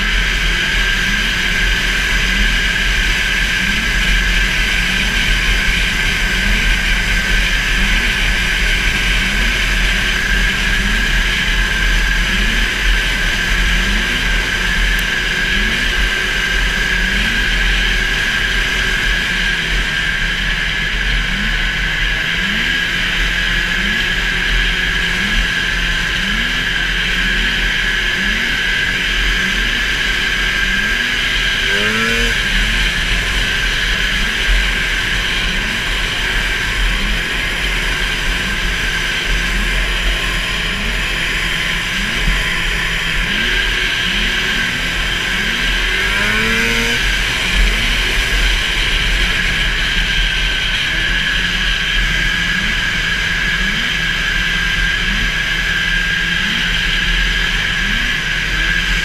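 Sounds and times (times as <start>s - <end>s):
snowmobile engine revving high: 0.0s - 59.0s.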